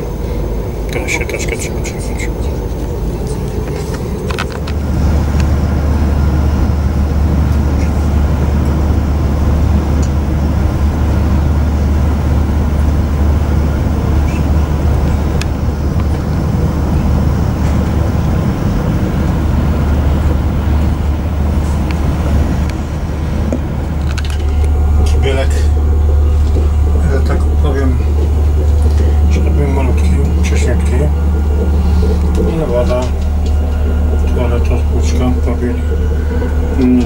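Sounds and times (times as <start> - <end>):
train running low rumble: 0.0 - 37.0.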